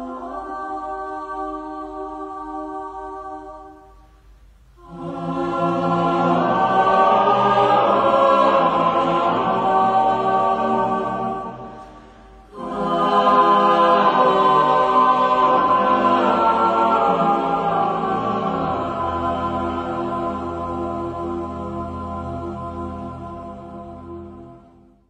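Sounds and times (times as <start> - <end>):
slow choral singing: 0.0 - 25.0.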